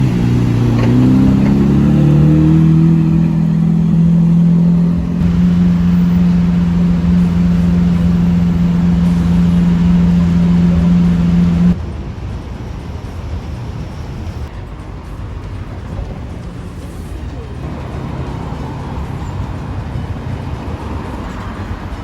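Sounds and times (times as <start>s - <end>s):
car engine droning: 0.0s - 11.8s, 14.2s - 22.0s.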